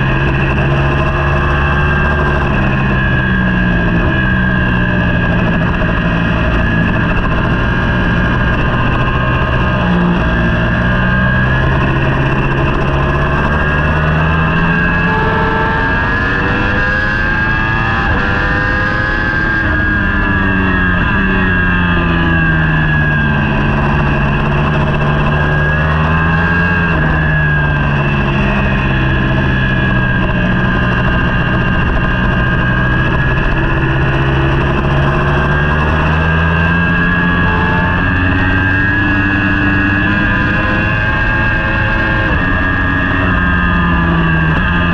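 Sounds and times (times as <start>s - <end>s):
superbike engine running: 0.0s - 44.9s.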